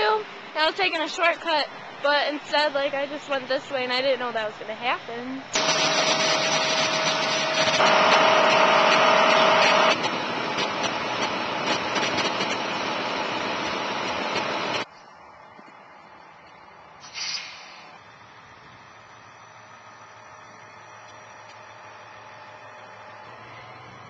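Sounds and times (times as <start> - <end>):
vehicle running noise: 0.0 - 24.0.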